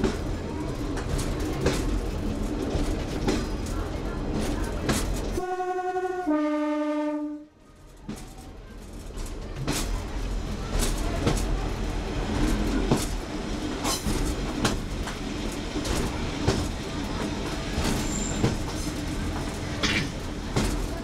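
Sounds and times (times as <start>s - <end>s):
train wheels clicking on track: 0.0s - 5.5s, 7.7s - 21.0s
diesel train engine drone: 0.0s - 21.0s.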